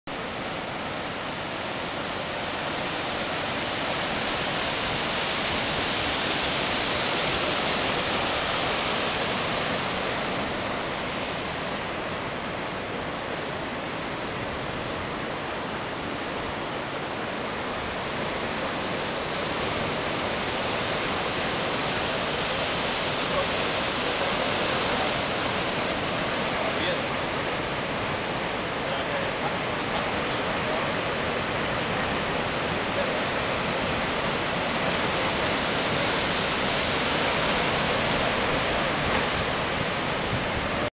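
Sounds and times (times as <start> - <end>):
surf breaking over rocks: 0.1 - 40.9.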